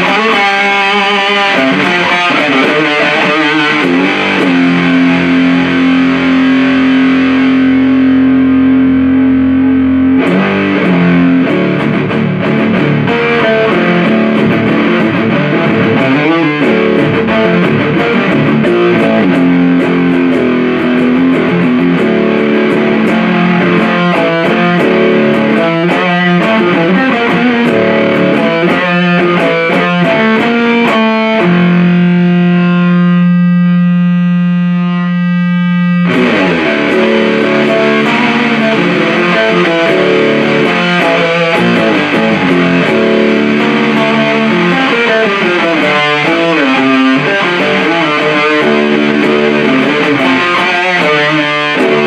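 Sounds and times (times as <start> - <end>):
fuzzed electric guitar riffing: 0.0 - 52.0.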